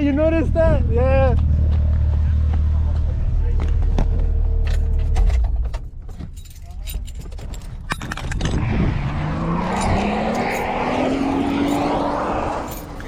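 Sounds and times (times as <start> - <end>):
car engine accelerating: 0.0 - 5.9, 8.4 - 13.0
exhaust and road noise rush: 0.0 - 13.0.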